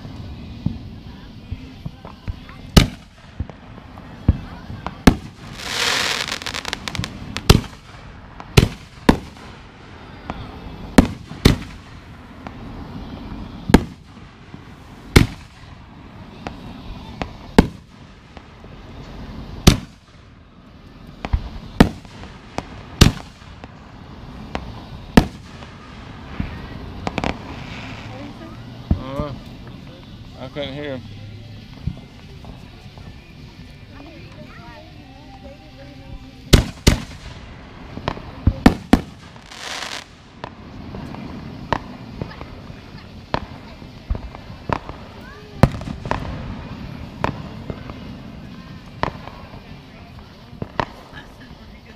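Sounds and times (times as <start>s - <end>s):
crackling hiss: 0.0s - 51.9s
fireworks booming overhead: 0.0s - 51.9s.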